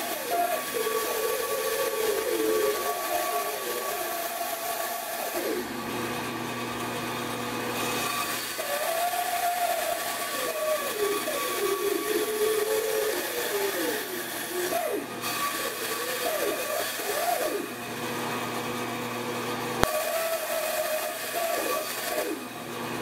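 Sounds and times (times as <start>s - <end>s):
bandsaw cutting plywood: 0.0s - 23.0s.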